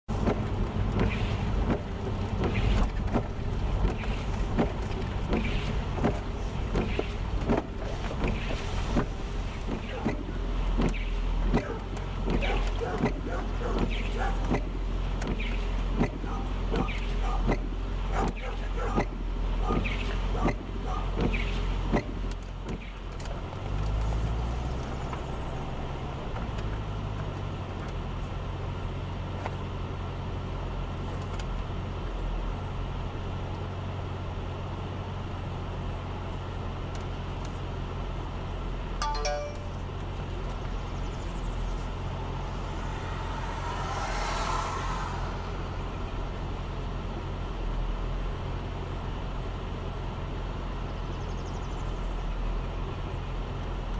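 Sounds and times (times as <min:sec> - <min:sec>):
car engine idling: 0:00.0 - 0:39.0, 0:39.6 - 0:53.9.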